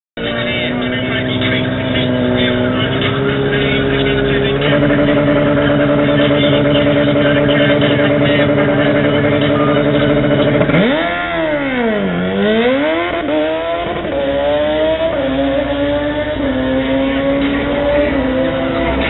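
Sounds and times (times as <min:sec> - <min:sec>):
motorcycle engine revving: 0:00.2 - 0:19.0.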